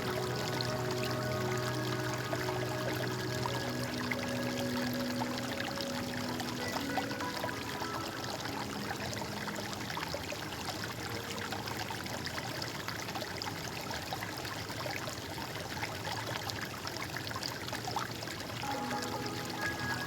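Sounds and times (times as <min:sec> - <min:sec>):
stream of water trickling: 0:00.0 - 0:20.0.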